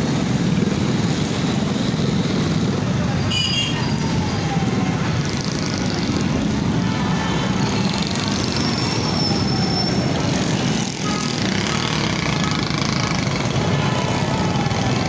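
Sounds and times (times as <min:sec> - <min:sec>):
motorcycle engine and road drone: 0:00.0 - 0:15.0.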